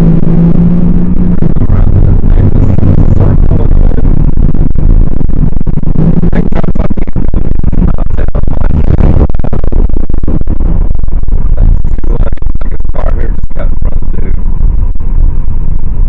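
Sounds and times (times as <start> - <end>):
crackling wind buffets: 0.0 - 16.0
wind and road noise in car: 0.0 - 16.0.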